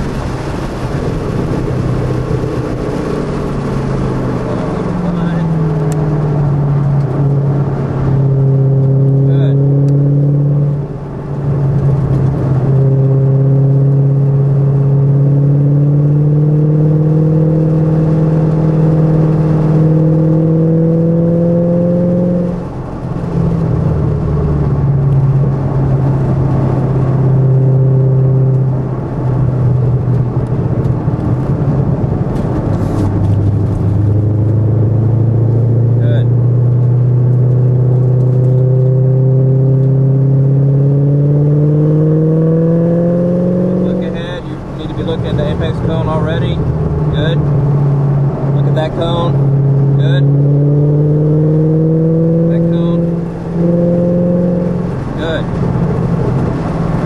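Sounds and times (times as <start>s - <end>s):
car engine revving: 0.0s - 57.0s
wind and tyre noise: 0.0s - 57.0s.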